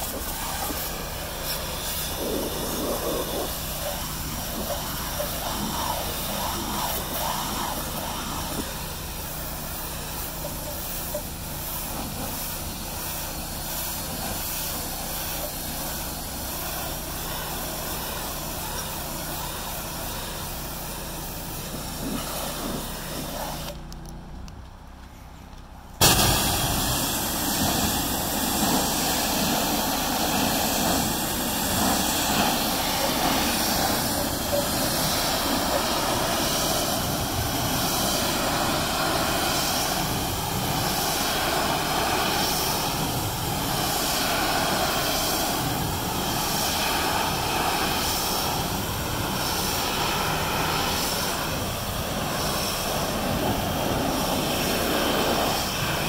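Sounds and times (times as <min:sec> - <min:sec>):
pressure washer spray: 0:00.0 - 0:23.9, 0:26.0 - 0:56.0.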